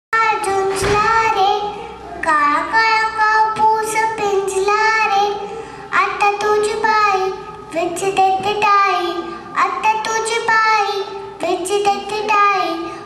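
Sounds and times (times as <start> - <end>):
girl singing into a microphone: 0.2 - 13.0.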